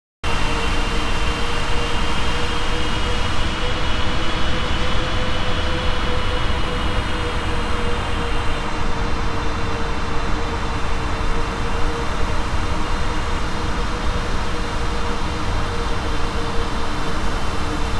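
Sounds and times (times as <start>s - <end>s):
high steady whine: 0.2s - 17.9s
airplane cabin engine noise: 0.3s - 17.9s.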